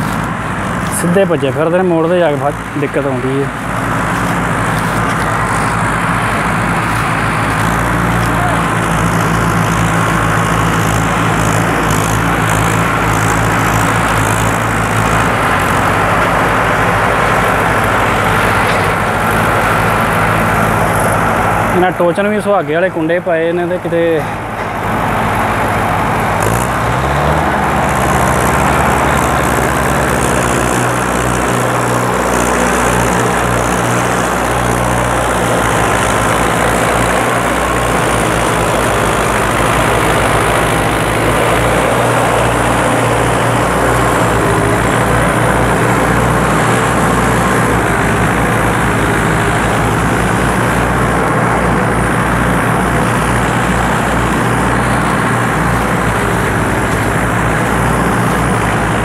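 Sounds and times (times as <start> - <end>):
tractor diesel engines under load: 0.0 - 59.0.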